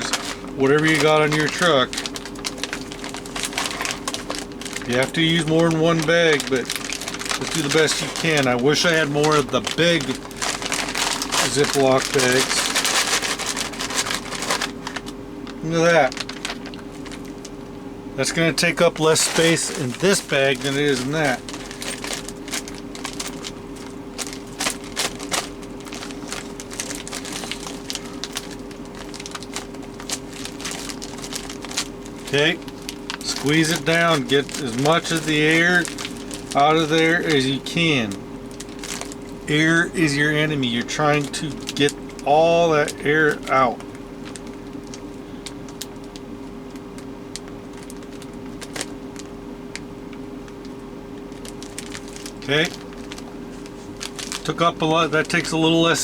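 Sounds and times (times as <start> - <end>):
plastic packaging crinkling: 0.0 - 56.0
steady low hum: 0.0 - 56.0.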